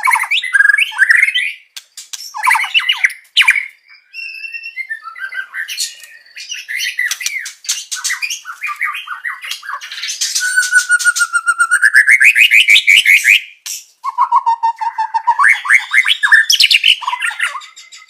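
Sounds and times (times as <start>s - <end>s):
songbird chirping and squawking: 0.0s - 18.0s.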